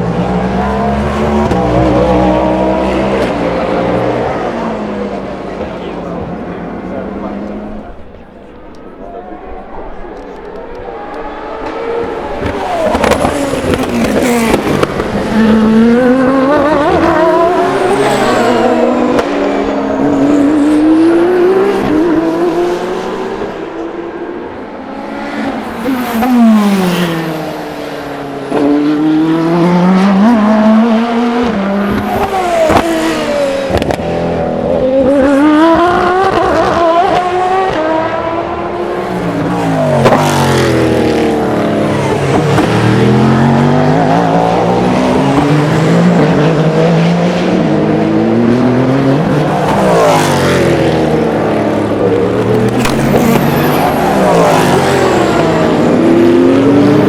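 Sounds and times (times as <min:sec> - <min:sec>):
race cars braking and accelerating: 0:00.0 - 0:57.0.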